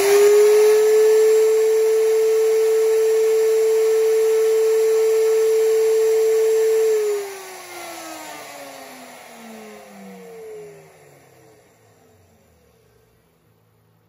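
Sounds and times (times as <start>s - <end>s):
router motor whining: 0.0s - 13.3s
router spinning down: 0.0s - 14.0s.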